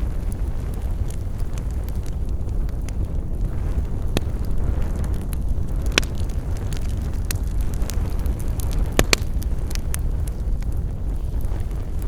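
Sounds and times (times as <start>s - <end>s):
campfire crackling and popping: 0.0s - 12.0s
low rumble of fire: 0.0s - 12.0s.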